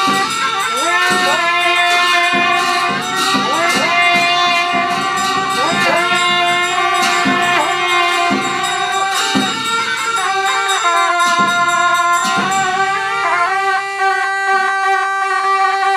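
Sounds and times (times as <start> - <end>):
percussion strikes: 0.0 - 15.9
reedy wind instrument long notes: 0.0 - 15.9.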